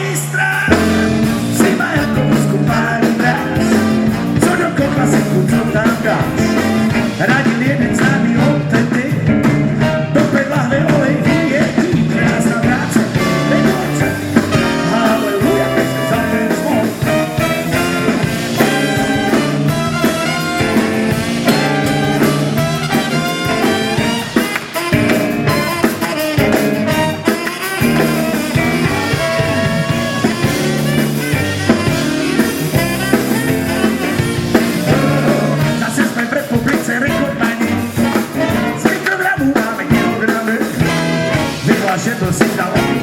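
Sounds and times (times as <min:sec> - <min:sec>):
rock band playing live: 0:00.0 - 0:43.0.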